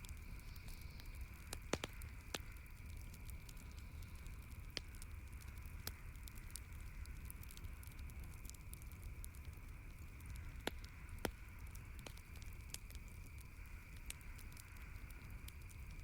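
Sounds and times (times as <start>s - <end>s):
campfire crackling and popping: 0.0s - 16.0s
faint steady hiss: 0.0s - 16.0s.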